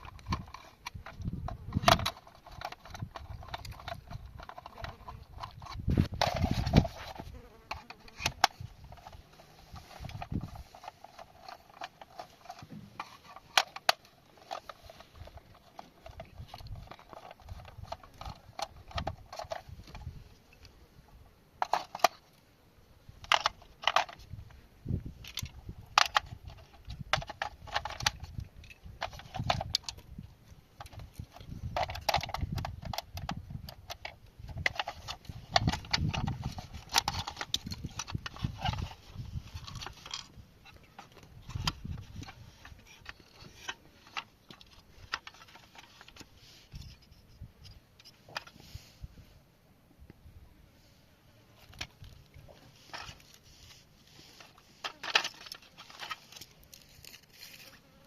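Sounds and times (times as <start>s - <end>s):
plastic parts clicking and rattling: 0.0s - 20.7s, 21.6s - 22.4s, 23.2s - 48.8s, 51.6s - 58.0s.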